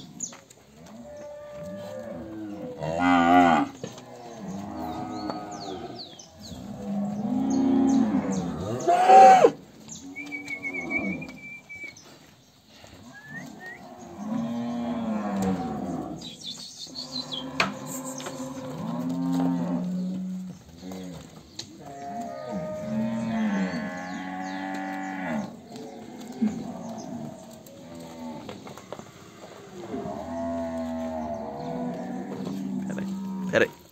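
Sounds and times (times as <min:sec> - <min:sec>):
cattle mooing: 0:00.8 - 0:09.6, 0:10.2 - 0:11.6, 0:13.1 - 0:16.3, 0:17.0 - 0:21.2, 0:21.8 - 0:33.8.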